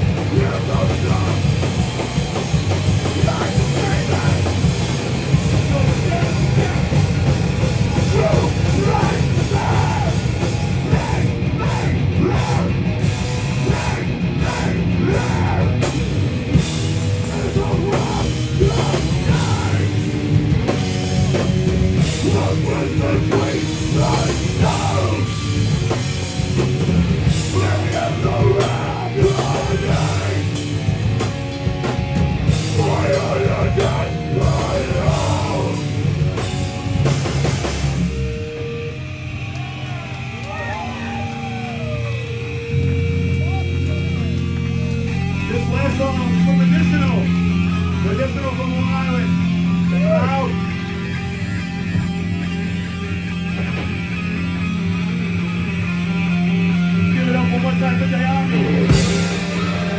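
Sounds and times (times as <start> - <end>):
drum kit pounding: 0.0 - 39.1, 40.6 - 55.3, 58.2 - 59.9
heavy rock band playing: 0.0 - 59.9.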